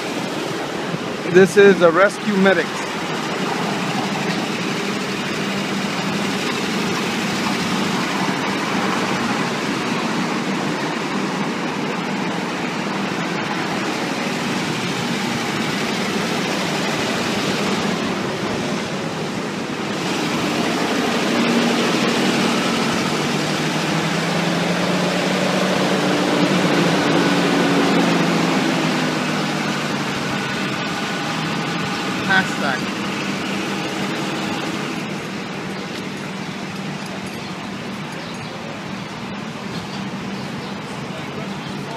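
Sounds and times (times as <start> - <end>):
vehicle engines idling: 0.0 - 41.9.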